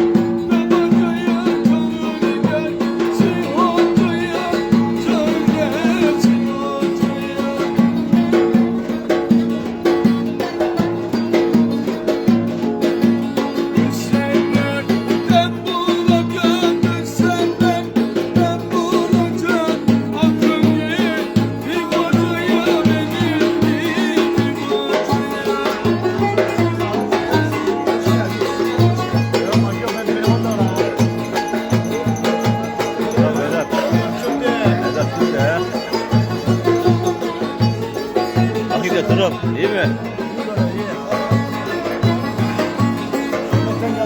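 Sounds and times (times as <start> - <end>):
driving drum beat: 0.0 - 44.0.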